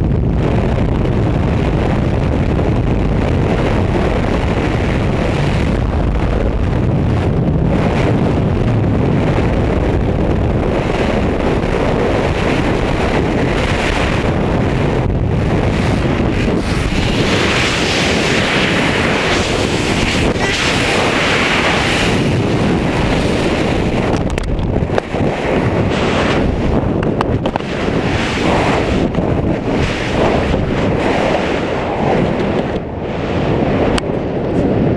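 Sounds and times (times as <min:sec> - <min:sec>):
wind roaring on microphone: 0:00.0 - 0:34.9.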